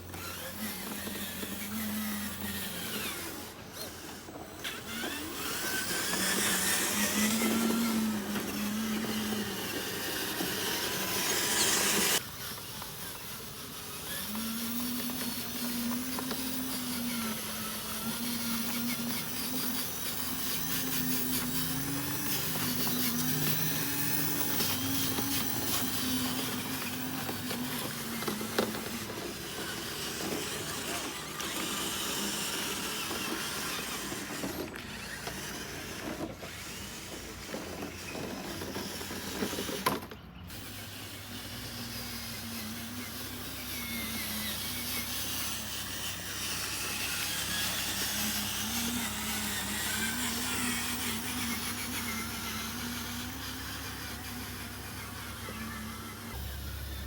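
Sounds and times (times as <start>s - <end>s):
small electric motors whining: 0.0s - 57.0s.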